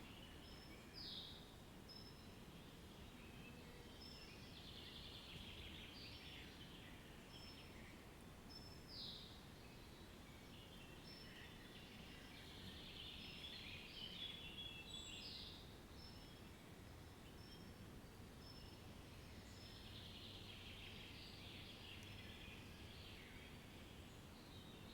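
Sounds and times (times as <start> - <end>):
steady outdoor hiss: 0.0 - 24.9.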